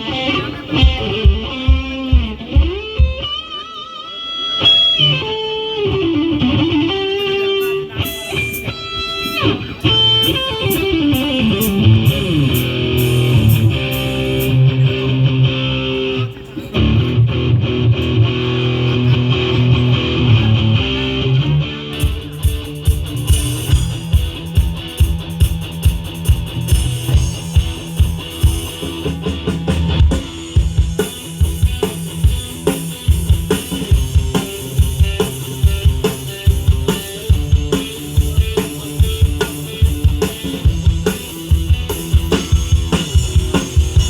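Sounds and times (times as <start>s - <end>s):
loud electric guitar: 0.0s - 44.0s.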